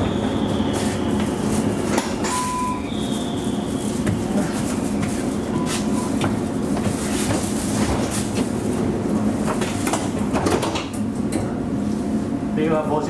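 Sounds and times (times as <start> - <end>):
tram hum and rumble: 0.0 - 12.6.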